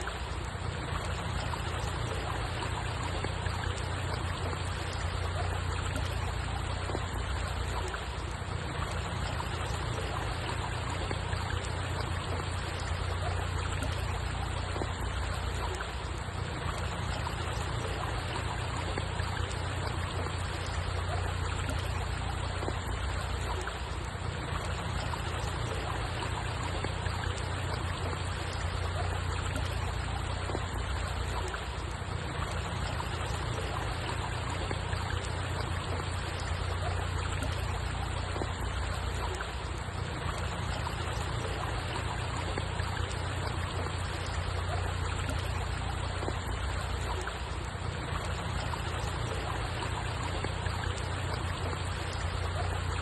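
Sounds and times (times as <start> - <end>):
water flowing and trickling: 0.0 - 53.0.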